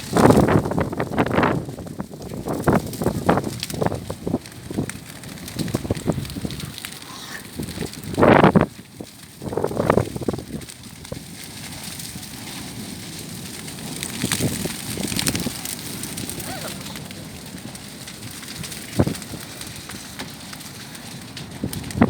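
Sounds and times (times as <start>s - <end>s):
strong wind: 0.0s - 11.3s, 13.7s - 19.8s, 21.4s - 22.0s
large fire crackling: 0.0s - 22.0s.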